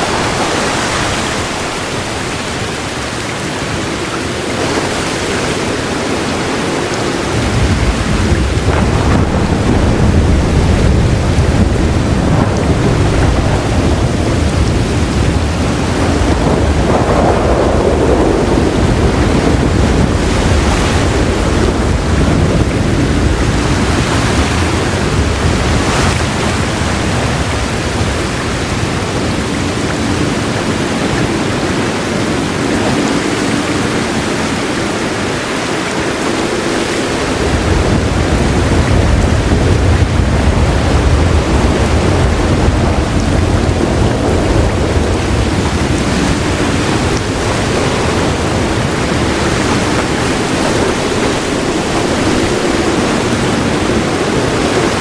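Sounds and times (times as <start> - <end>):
heavy rain falling: 0.0 - 55.0
low rolling thunder: 5.4 - 33.3, 37.0 - 55.0.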